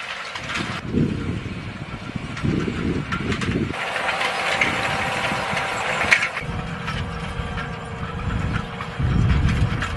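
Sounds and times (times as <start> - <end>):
higher-pitched mechanical noise: 0.0 - 9.9
tractor engine rumbling: 0.0 - 9.9.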